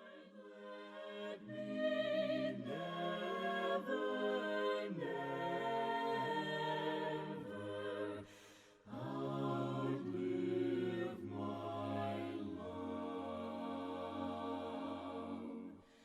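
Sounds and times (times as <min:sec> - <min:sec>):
group singing a cappella hymn: 0:00.0 - 0:16.0.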